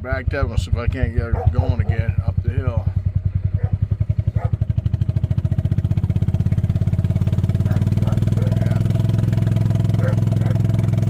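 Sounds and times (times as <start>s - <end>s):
golf cart engine running: 0.0s - 11.0s.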